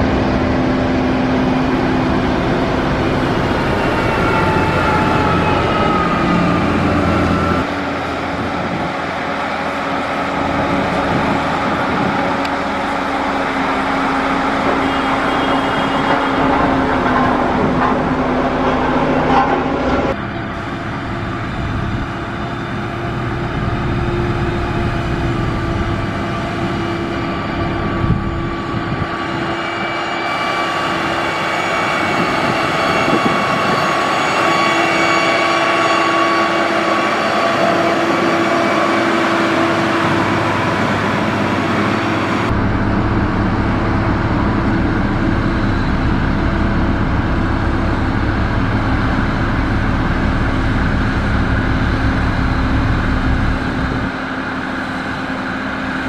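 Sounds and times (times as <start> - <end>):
diesel engine of heavy machinery: 0.0 - 56.0.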